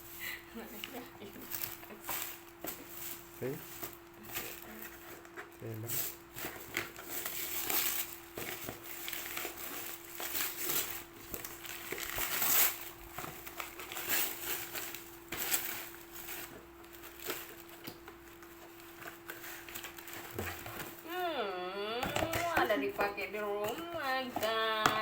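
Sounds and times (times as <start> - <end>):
gift packaging rustling and tearing: 0.0 - 21.3, 22.0 - 25.0.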